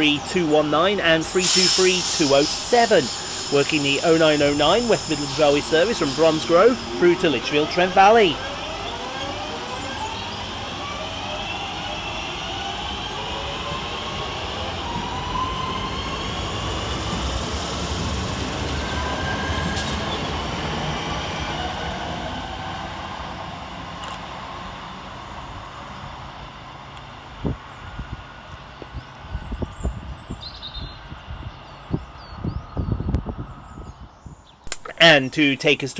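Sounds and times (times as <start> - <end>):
electric train motors whining: 0.0 - 28.8
train wheels rumbling on rails: 0.0 - 30.0.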